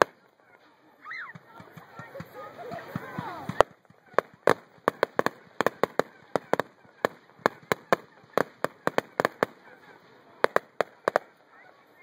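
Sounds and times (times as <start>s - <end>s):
fireworks bangs and pops: 0.0s - 0.3s, 1.3s - 11.4s.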